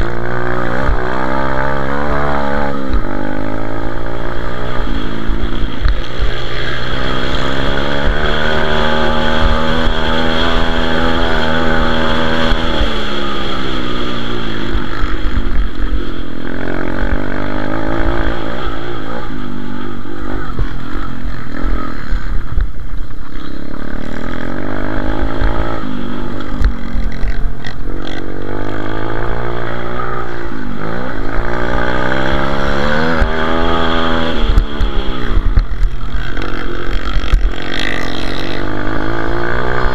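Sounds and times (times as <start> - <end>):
pit bike engine revving: 0.0 - 22.6, 23.2 - 39.9.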